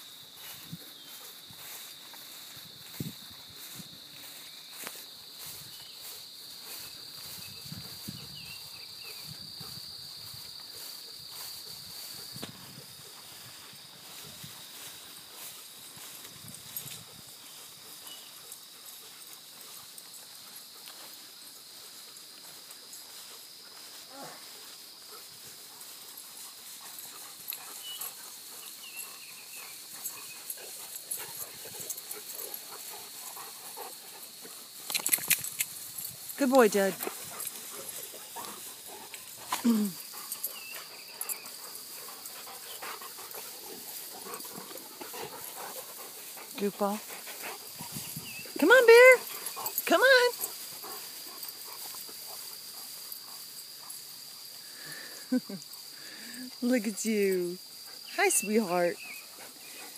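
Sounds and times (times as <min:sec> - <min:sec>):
footsteps swishing through grass: 0:00.0 - 0:54.6
dogs rustling through grass: 0:00.0 - 0:59.9.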